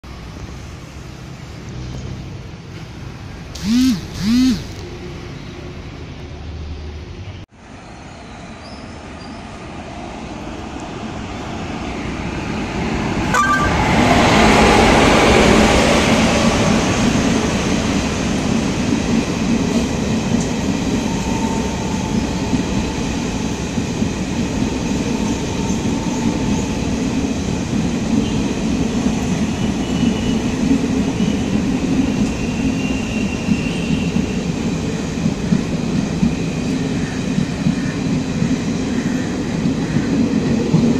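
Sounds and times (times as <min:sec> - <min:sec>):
train approaching and passing: 0:00.0 - 0:40.9
wheels rumbling on rail: 0:00.0 - 0:40.9.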